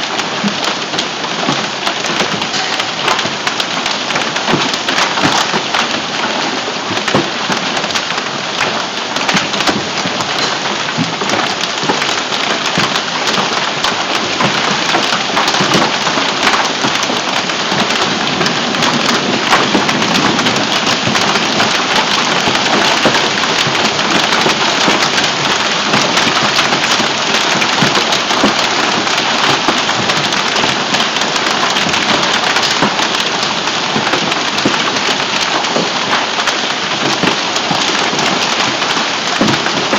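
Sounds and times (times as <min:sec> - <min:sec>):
heavy hail and rain: 0:00.0 - 0:39.9.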